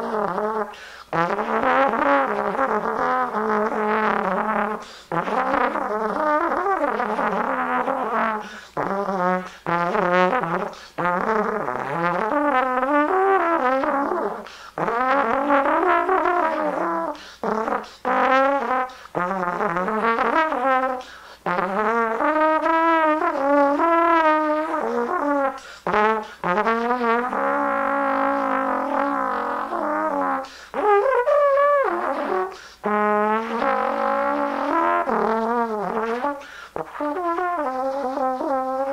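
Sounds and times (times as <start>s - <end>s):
solo trombone improvising: 0.0s - 38.9s.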